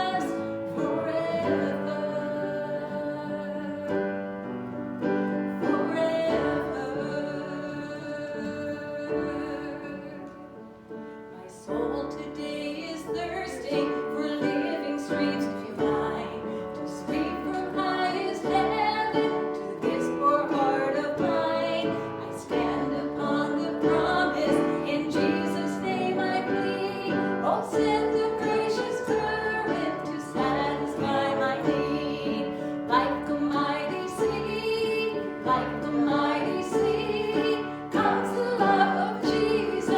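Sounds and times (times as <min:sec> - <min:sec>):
woman singing: 0:00.0 - 0:04.5, 0:05.4 - 0:10.6, 0:11.4 - 0:39.9
piano accompaniment: 0:00.0 - 0:39.9.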